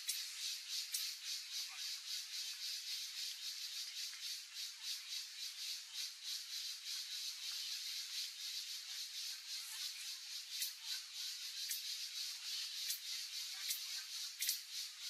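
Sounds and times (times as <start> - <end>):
insects pulsing chorus: 0.0 - 15.0.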